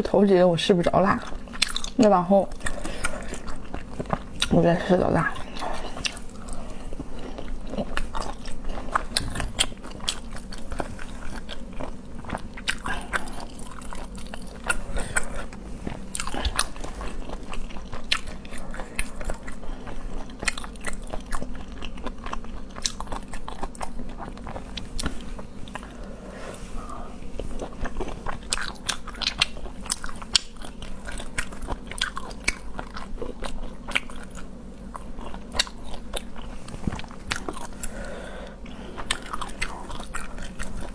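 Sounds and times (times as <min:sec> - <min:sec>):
person chewing with crunches: 0:00.8 - 0:40.9.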